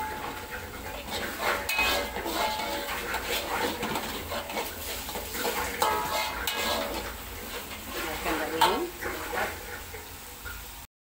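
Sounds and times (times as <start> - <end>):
spatula scraping in wok: 0.0 - 10.1
frying sizzle: 0.0 - 10.9.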